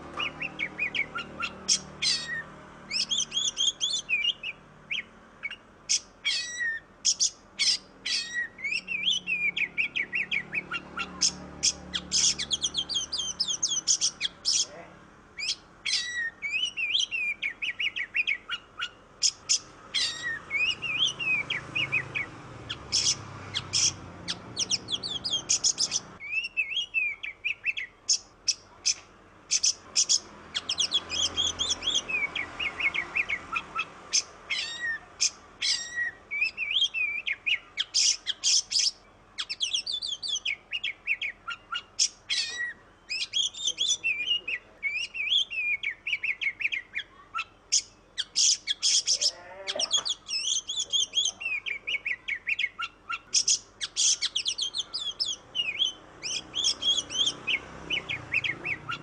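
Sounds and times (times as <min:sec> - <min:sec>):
bird singing chirps and whistles: 0:00.0 - 0:14.7, 0:15.4 - 0:59.0.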